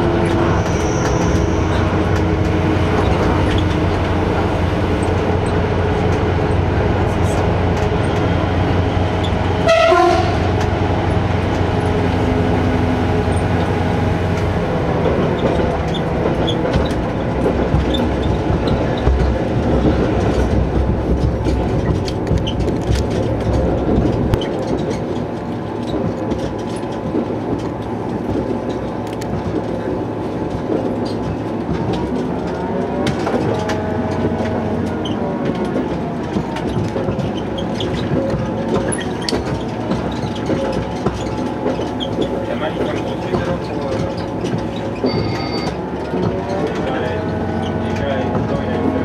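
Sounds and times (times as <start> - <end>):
diesel engine drone: 0.0 - 49.0
wheel and rail noise: 0.0 - 49.0.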